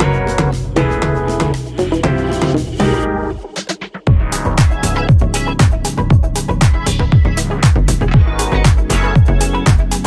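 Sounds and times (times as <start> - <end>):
dance music with beat: 0.0 - 10.0.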